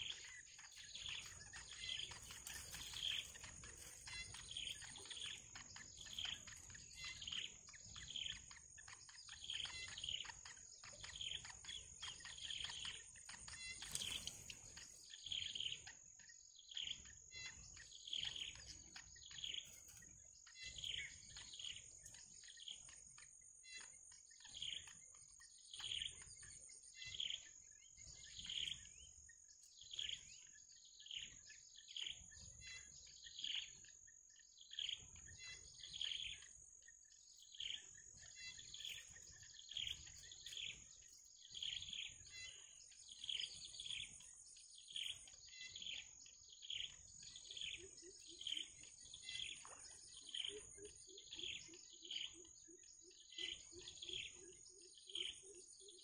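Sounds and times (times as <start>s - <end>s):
insects droning: 0.0s - 23.9s, 34.3s - 55.9s
bird chirping: 0.0s - 56.0s.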